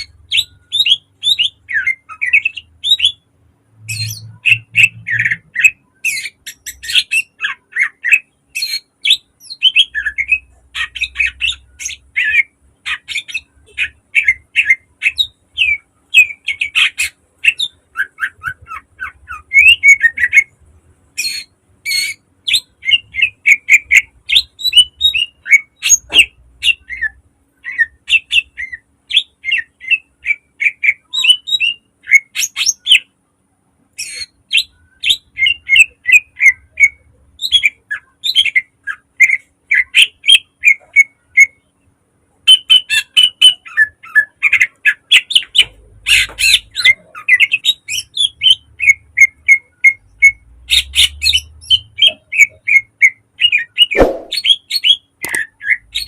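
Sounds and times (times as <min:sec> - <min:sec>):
bird singing rapid song: 0:00.0 - 0:33.1, 0:34.0 - 0:41.8, 0:42.4 - 0:56.0.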